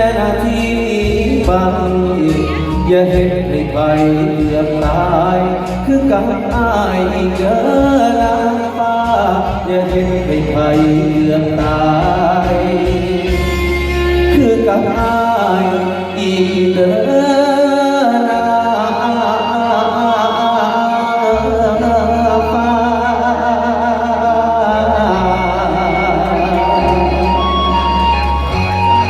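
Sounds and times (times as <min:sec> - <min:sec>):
heavy deep bass: 0:00.0 - 0:20.2, 0:21.3 - 0:29.0
ornamented instrumental melody: 0:00.0 - 0:29.0.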